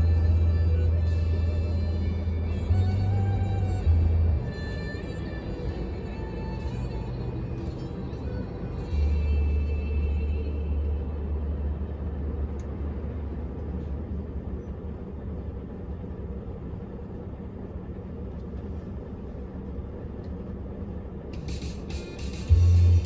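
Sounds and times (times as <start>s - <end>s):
engine and road noise in cabin: 0.0s - 23.0s.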